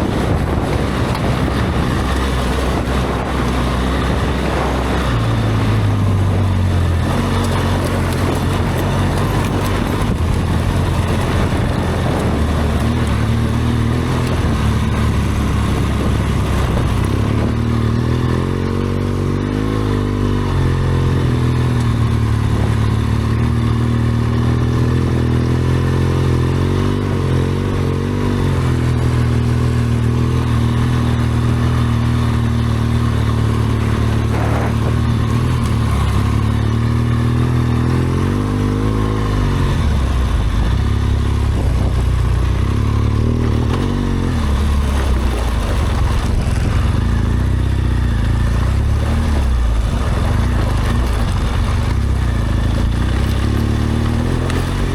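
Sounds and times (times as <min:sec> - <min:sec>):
motorcycle engine revving: 0:00.0 - 0:54.9
wind and tyre noise: 0:00.0 - 0:54.9.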